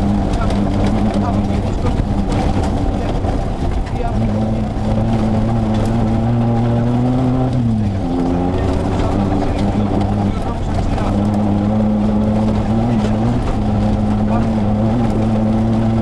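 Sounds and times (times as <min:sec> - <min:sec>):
rally car engine under load: 0:00.0 - 0:16.0
rough track noise: 0:00.0 - 0:16.0.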